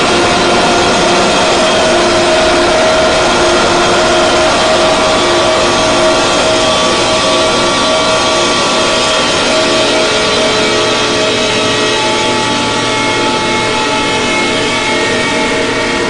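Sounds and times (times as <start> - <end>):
harsh noise drone music: 0.0 - 16.0.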